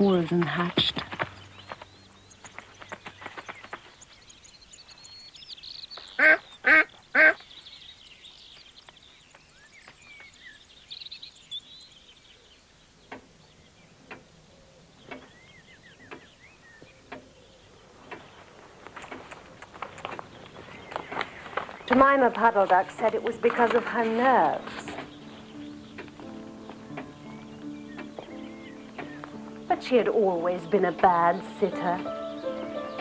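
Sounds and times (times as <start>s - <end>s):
ducklings peeping: 0.0s - 12.1s, 14.9s - 29.8s.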